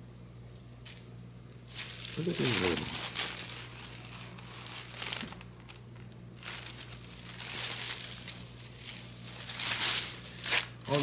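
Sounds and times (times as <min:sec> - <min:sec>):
packaging crinkling and rustling: 0:01.7 - 0:11.0.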